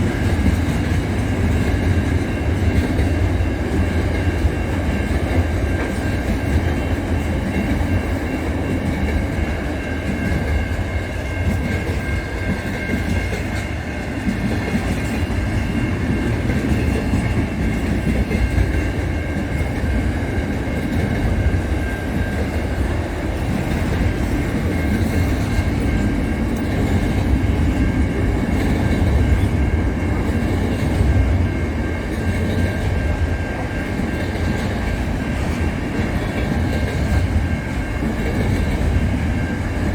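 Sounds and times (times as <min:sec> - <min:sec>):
train rumbling on rails: 0:00.0 - 0:39.9
wheels clickety-clack: 0:00.0 - 0:39.9.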